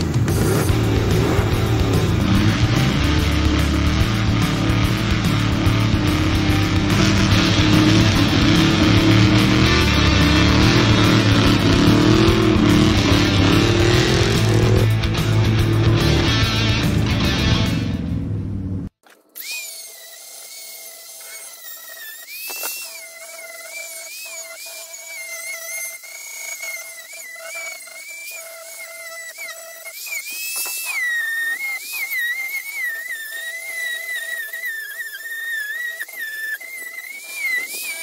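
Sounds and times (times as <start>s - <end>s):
rotary tool grinding metal: 0.4s - 17.3s, 19.0s - 38.0s.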